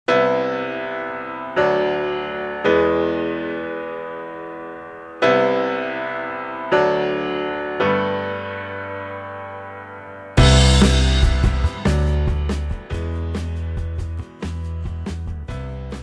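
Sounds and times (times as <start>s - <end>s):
piano chords: 0.1s - 16.0s.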